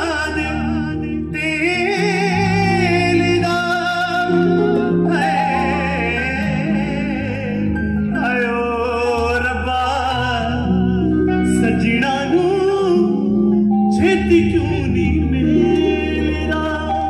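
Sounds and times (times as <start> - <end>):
keyboard: 0.0 - 17.0
man singing with vibrato: 0.0 - 17.0
sustained bass: 0.0 - 17.0.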